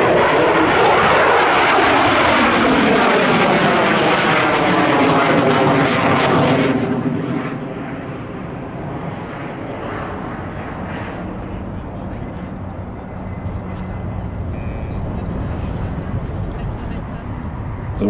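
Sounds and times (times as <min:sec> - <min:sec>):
jet flying past: 0:00.0 - 0:18.0.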